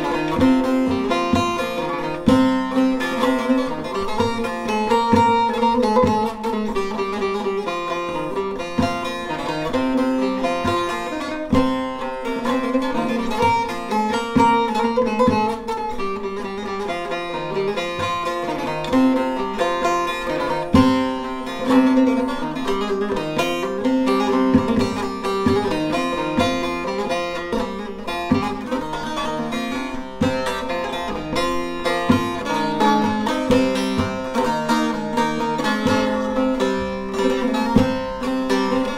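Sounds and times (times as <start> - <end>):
plucked lute notes: 0.0 - 38.9.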